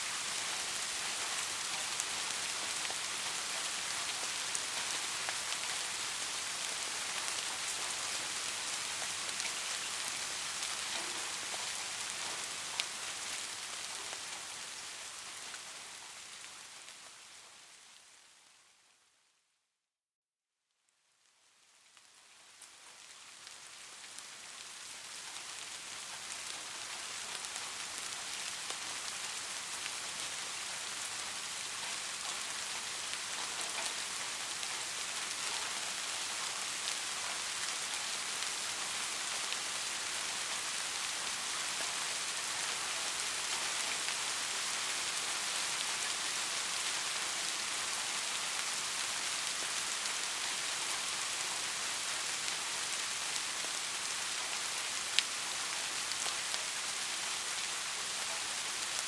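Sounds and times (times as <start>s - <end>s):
steady rain patter: 0.0s - 19.4s, 20.9s - 59.0s.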